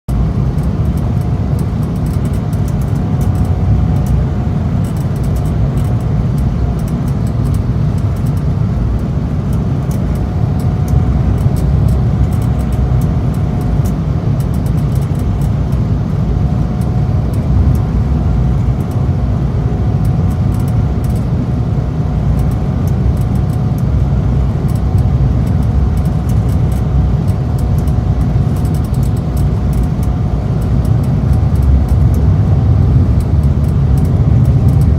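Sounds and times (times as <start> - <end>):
faint steady hum: 0.1 - 34.9
jet engine and airflow rumble: 0.1 - 34.9.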